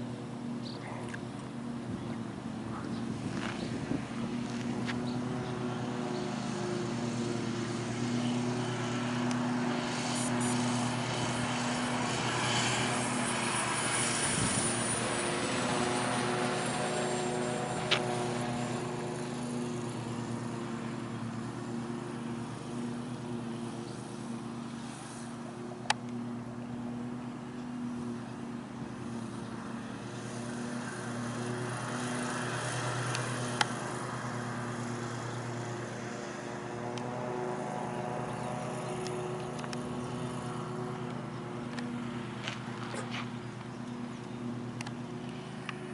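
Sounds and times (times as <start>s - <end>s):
model airplane motor and propeller: 0.0s - 45.9s.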